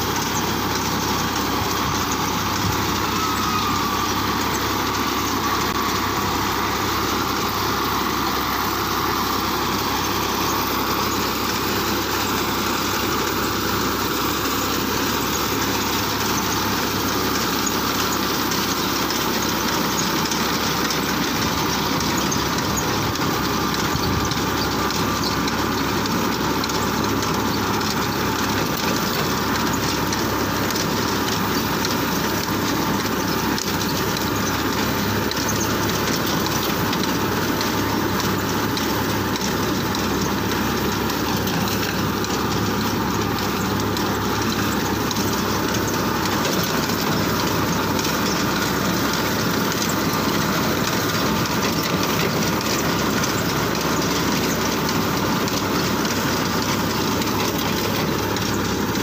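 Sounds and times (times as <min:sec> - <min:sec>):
tractor engine running: 0:00.0 - 0:59.0
reaper binder mechanical clatter: 0:09.6 - 0:59.0.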